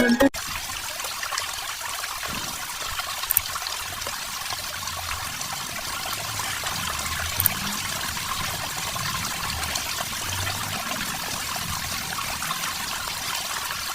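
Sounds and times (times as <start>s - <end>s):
water trickling from pump: 0.4s - 13.9s.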